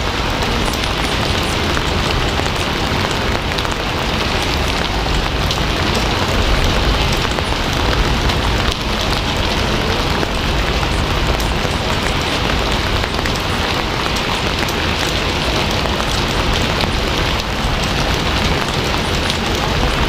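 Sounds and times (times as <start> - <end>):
heavy rain on a surface: 0.0 - 20.0.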